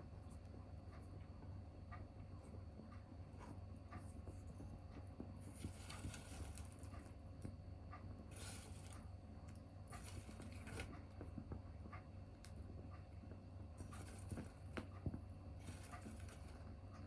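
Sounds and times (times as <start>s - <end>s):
steady low hum: 0.0s - 17.0s
wood fire crackling and popping: 2.1s - 17.0s.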